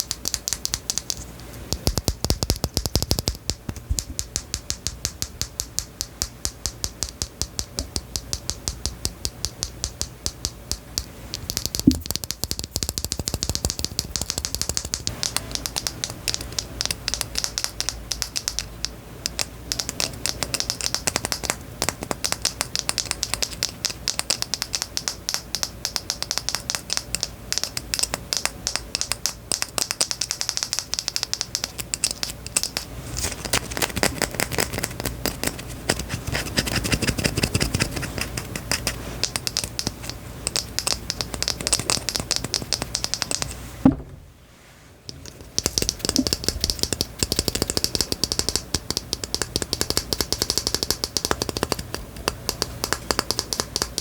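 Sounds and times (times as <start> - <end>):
sharp clicks: 0.0 - 44.0, 45.1 - 54.0.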